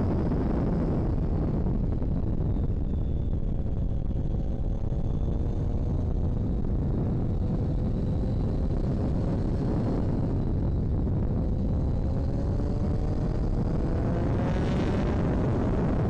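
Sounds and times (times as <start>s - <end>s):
wind and road noise rumble: 0.0s - 16.0s.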